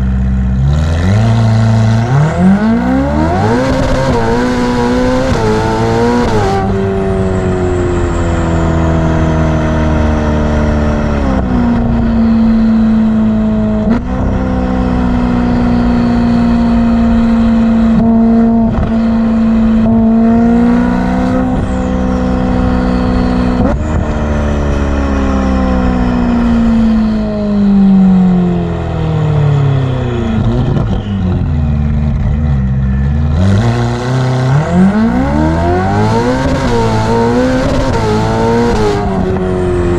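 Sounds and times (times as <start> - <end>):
car engine revving: 0.0 - 39.9
turbo whine: 1.1 - 39.9.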